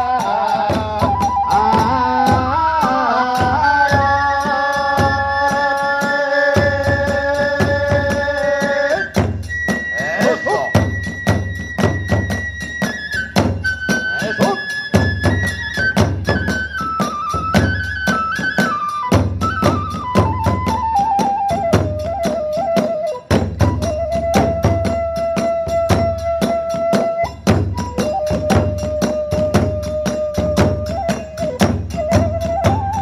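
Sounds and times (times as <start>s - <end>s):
bamboo flute melody: 0.0s - 33.0s
large drum beating: 6.6s - 33.0s.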